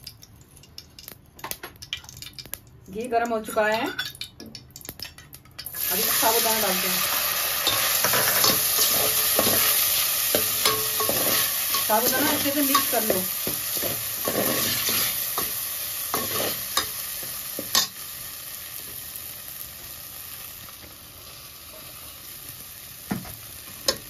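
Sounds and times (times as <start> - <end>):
tapioca pearls sizzling in pot: 0.0 - 24.0.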